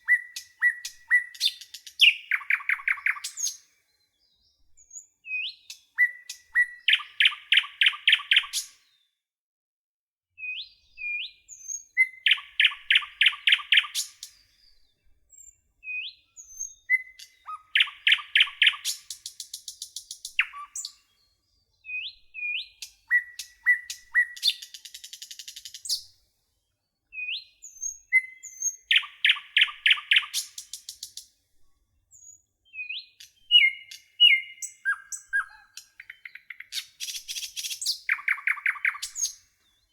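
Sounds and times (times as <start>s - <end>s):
songbird singing: 0.0s - 9.1s, 10.4s - 39.9s.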